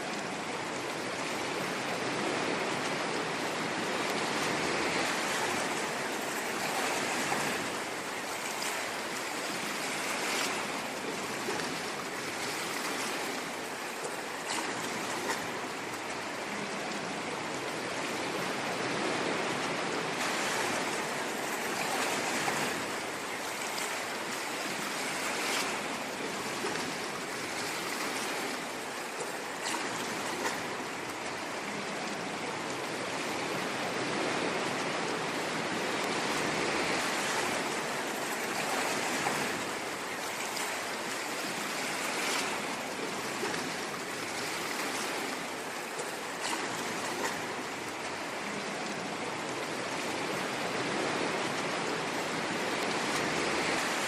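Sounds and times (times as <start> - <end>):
sea waves washing on shore: 0.0 - 54.0
small water splashes: 0.0 - 54.0.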